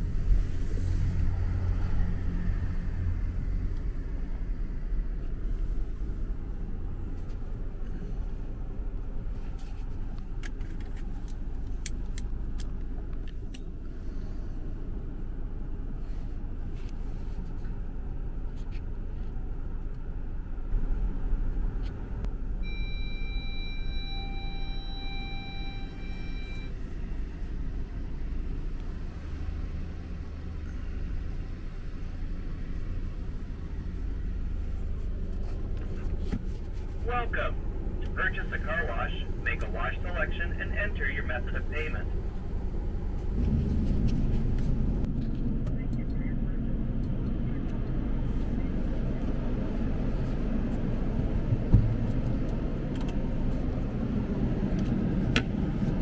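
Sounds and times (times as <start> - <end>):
car engine and tyres rumble: 0.0 - 56.0.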